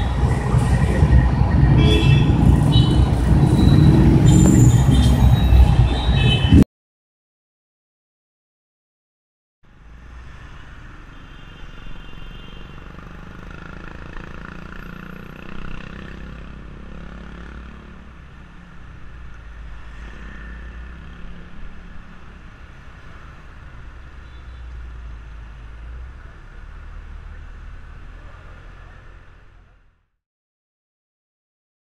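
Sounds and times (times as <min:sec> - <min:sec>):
motorbikes and cars passing: 0:00.0 - 0:06.6, 0:09.7 - 0:30.0.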